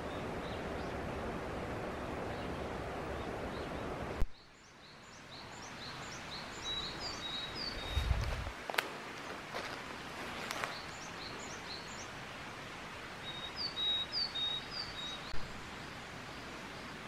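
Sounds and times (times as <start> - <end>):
steady rushing outdoor noise: 0.0 - 17.0
small birds chirping: 1.9 - 17.0.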